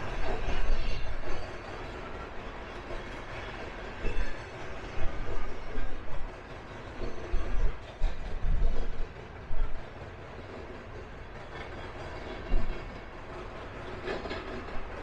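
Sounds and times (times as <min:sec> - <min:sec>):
freight train rumble: 0:00.0 - 0:15.0
train wheels clattering: 0:00.0 - 0:15.0.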